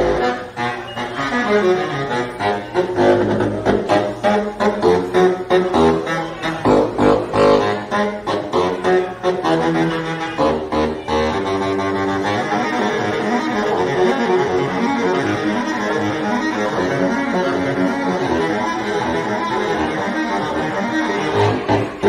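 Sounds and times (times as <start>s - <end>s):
horn blown with brassy notes: 0.0s - 22.0s.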